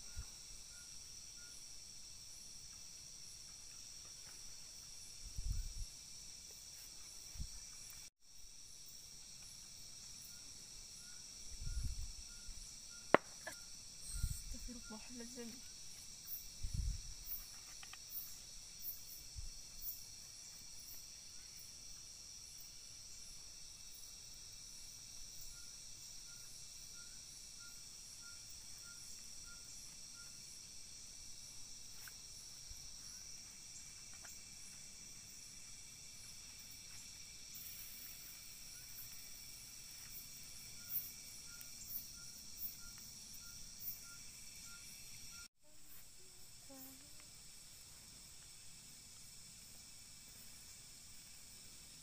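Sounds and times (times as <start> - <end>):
crickets trilling: 0.0 - 52.0
short repeating insect call: 0.0 - 52.0.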